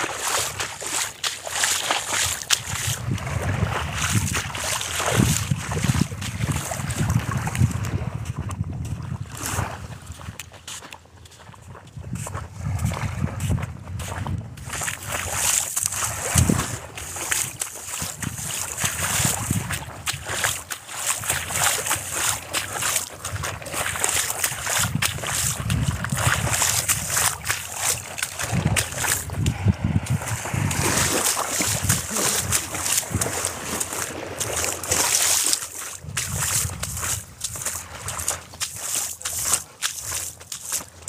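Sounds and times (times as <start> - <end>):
waves lapping on shore: 0.0 - 41.0.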